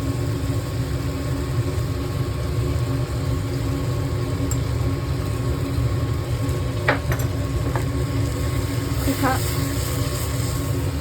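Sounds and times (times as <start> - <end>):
fan motor humming: 0.0 - 11.0.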